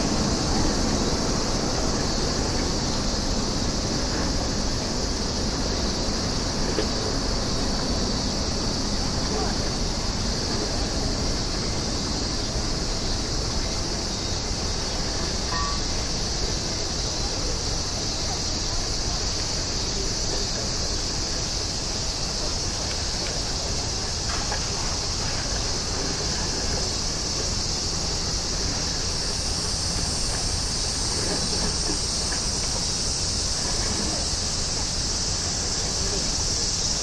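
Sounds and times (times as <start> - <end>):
high-pitched hiss: 0.0 - 37.0.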